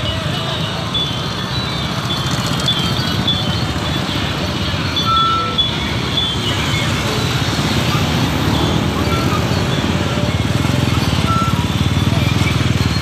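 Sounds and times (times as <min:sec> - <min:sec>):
scooter and car engines passing: 0:00.0 - 0:13.0.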